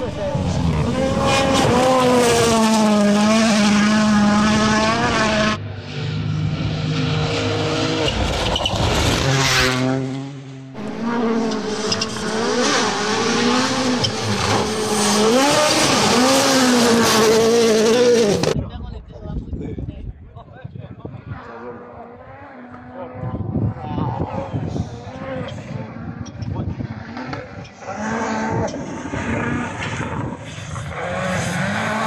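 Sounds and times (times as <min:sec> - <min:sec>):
rally car engines revving: 0:00.0 - 0:18.6, 0:21.2 - 0:32.0.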